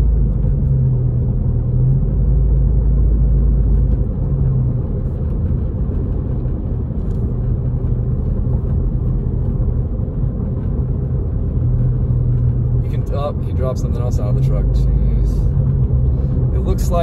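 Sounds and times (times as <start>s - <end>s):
engine and tyre rumble in cabin: 0.0s - 17.0s.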